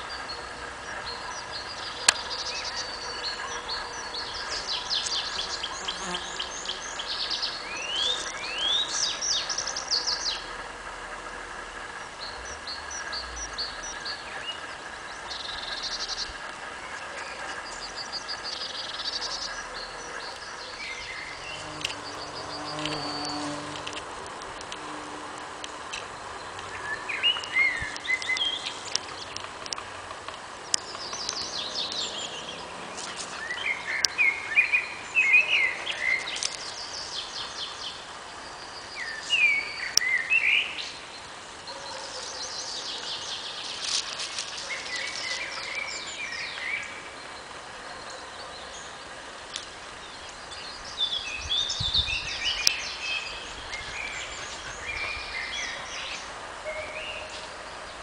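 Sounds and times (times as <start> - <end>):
songbirds singing: 0.0 - 58.0
steady background hiss: 0.0 - 58.0.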